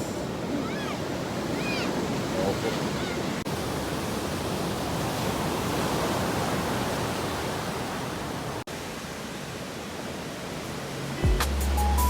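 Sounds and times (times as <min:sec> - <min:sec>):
ocean surf washing onto beach: 0:00.0 - 0:11.6.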